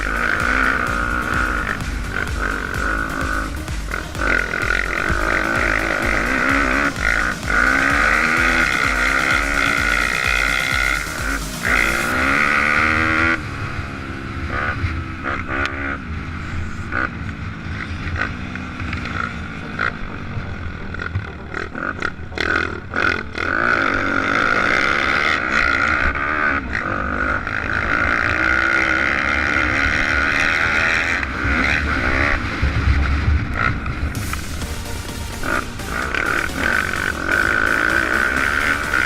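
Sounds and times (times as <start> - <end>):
pit bike engines revving: 0.0 - 39.0.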